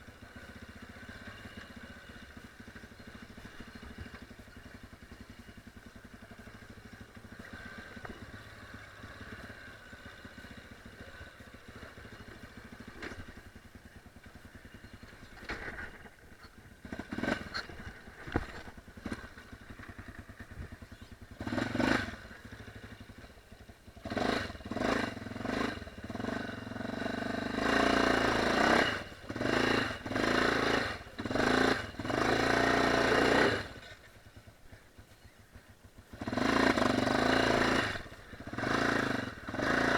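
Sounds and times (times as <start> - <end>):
dirt bike engine revving: 0.0 - 34.1, 36.1 - 39.9.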